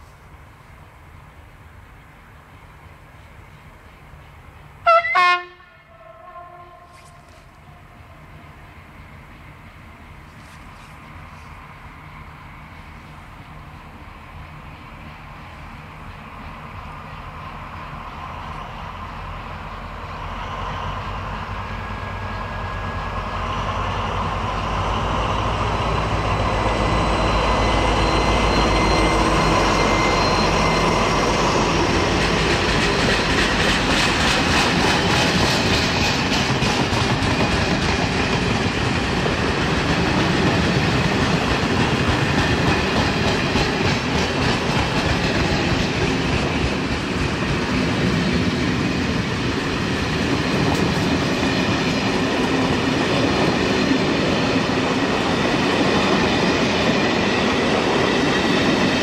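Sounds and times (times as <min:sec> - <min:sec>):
diesel locomotive engines: 0:00.0 - 0:59.0
train wheels clattering on rails: 0:07.0 - 0:59.0.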